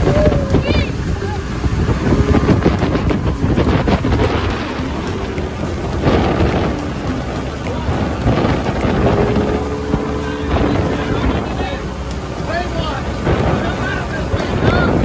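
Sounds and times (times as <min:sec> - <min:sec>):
boat engine: 0:00.0 - 0:15.0
water rushing along hull: 0:00.0 - 0:15.0
wind buffeting microphone: 0:00.0 - 0:15.0.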